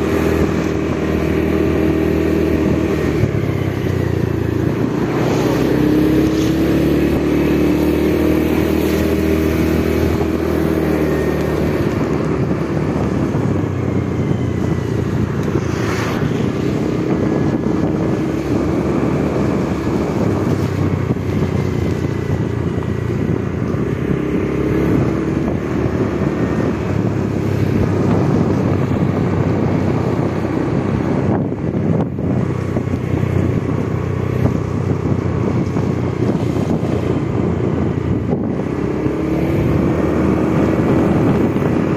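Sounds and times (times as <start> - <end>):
motorcycle engine running: 0.0 - 41.9
wind rushing over microphone: 0.0 - 41.9.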